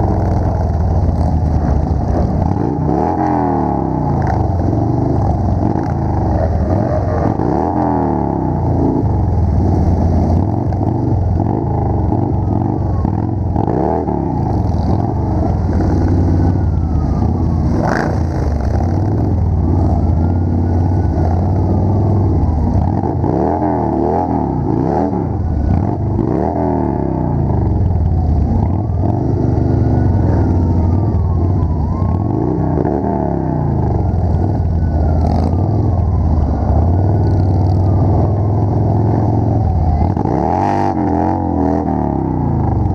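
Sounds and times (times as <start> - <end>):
motorcycle engines rumbling: 0.0 - 42.9.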